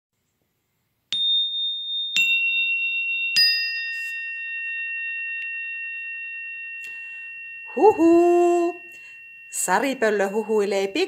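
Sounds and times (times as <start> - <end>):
descending chime notes ringing: 1.2 - 11.0.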